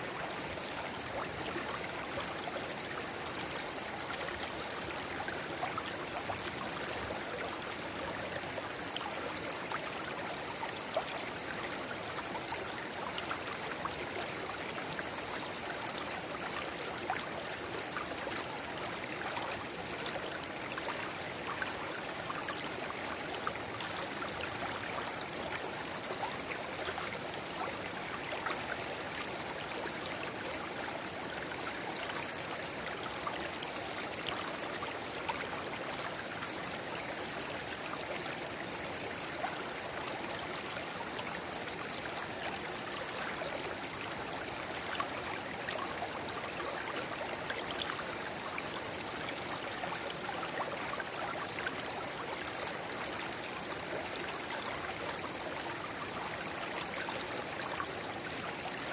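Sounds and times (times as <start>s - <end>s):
river water babbling over stones: 0.0s - 58.9s.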